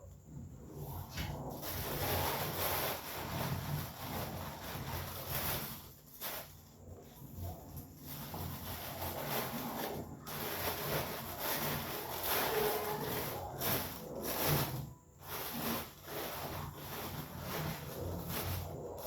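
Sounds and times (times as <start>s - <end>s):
cellophane crinkling: 1.5s - 19.0s.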